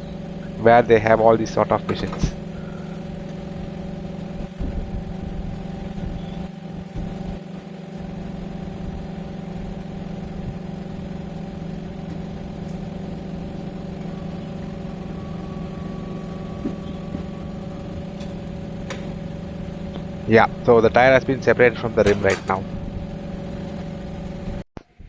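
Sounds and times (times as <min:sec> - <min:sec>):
tyre-changing machine humming: 0:00.0 - 0:24.7.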